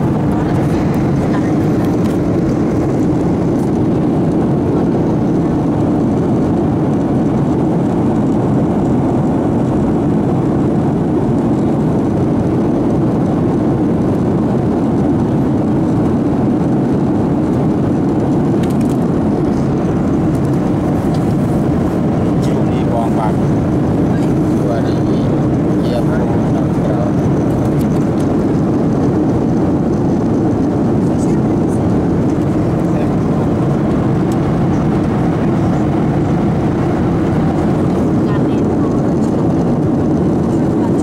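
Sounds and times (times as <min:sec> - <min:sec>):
airliner cabin drone: 0:00.0 - 0:41.0.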